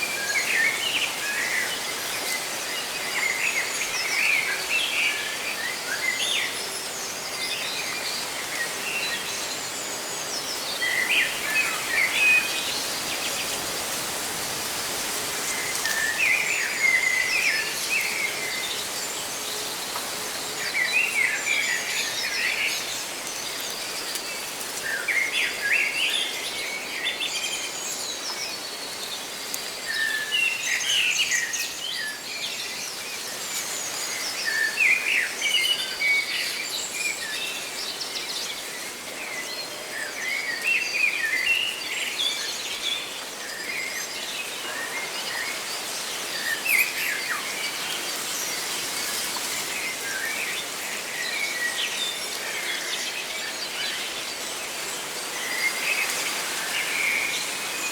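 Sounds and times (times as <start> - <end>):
leaves rustling: 0.0 - 57.9.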